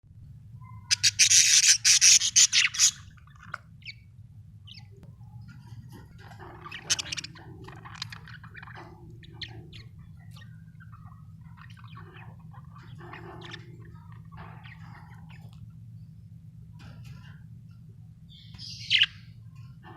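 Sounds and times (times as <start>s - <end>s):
budgerigars chirping and chattering: 0.6s - 16.1s, 18.3s - 19.9s.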